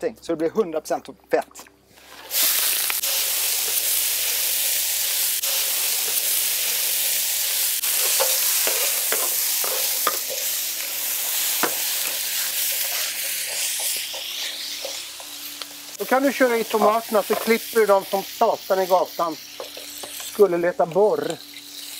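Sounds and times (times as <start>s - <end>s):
vegetables sizzling on griddle: 1.9s - 21.9s.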